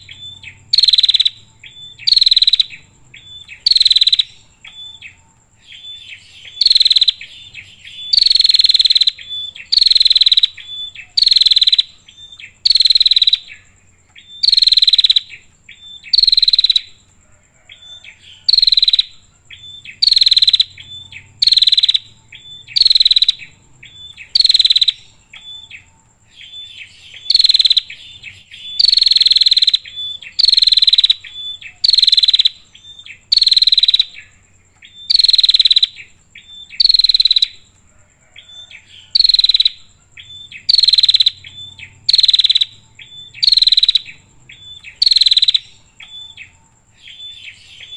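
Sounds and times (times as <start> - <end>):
bird buzzy calls: 0.0 - 17.0, 17.6 - 47.9.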